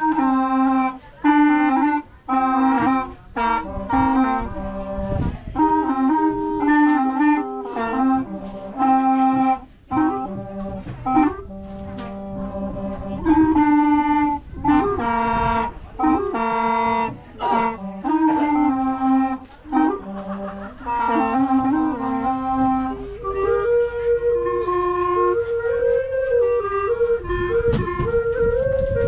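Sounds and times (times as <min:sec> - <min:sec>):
wind instrument melody: 0:00.0 - 0:29.0.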